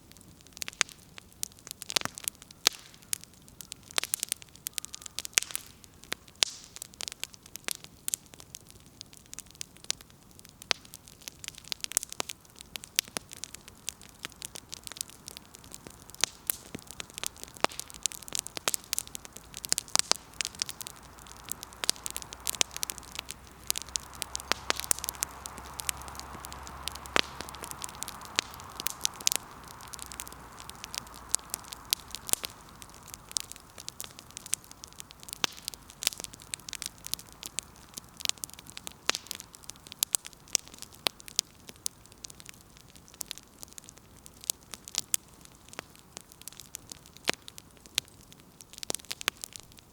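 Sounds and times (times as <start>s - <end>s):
steady hiss and low rumble: 0.0s - 49.9s
wood fire crackling and popping: 0.0s - 49.9s.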